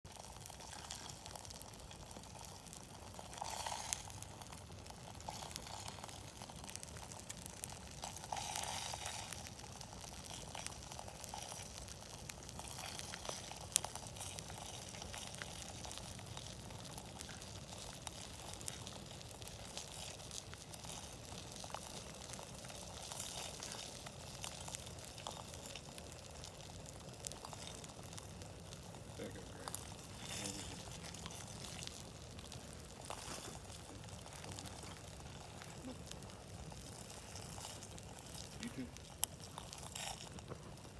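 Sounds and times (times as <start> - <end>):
campfire crackling and hissing: 0.1 - 40.9.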